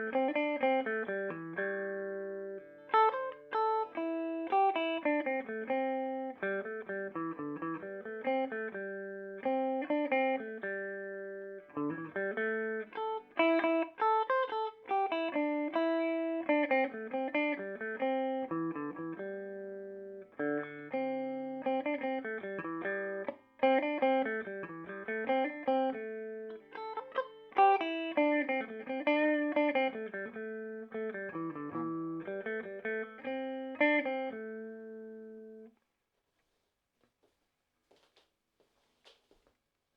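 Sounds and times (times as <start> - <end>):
clean electric guitar: 0.0 - 35.8.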